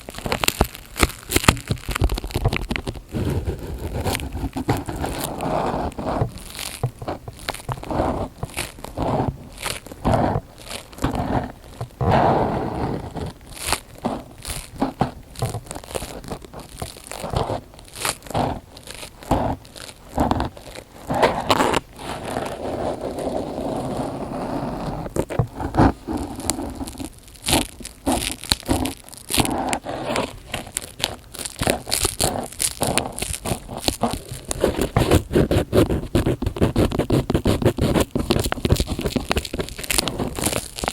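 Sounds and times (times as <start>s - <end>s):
crinkling and crackling: 0.0s - 40.9s.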